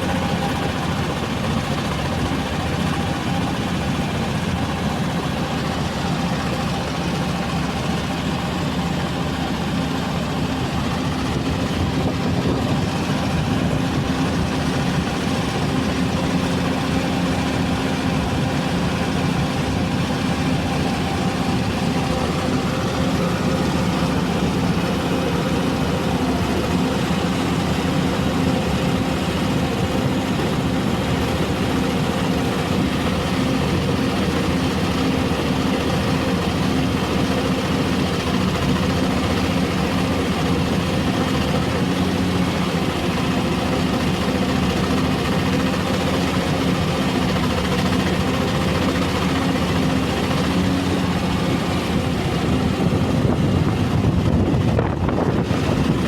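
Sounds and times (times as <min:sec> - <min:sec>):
excavator diesel engine idling: 0:00.0 - 0:56.0.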